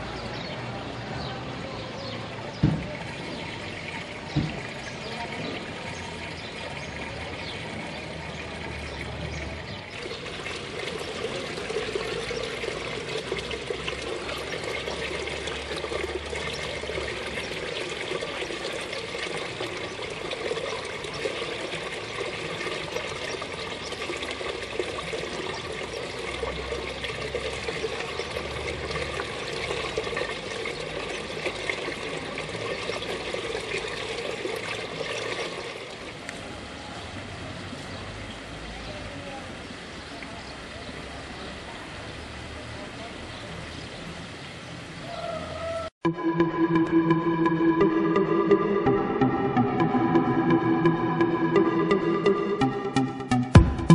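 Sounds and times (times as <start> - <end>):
water pouring into fountain: 0.0 - 45.0.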